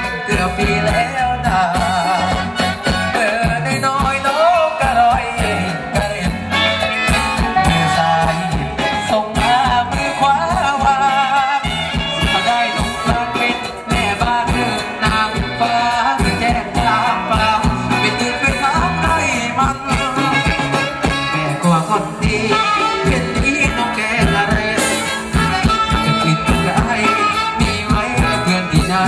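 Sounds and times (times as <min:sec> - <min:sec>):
live band playing dance music: 0:00.0 - 0:29.0
steady drum beat: 0:00.0 - 0:29.0.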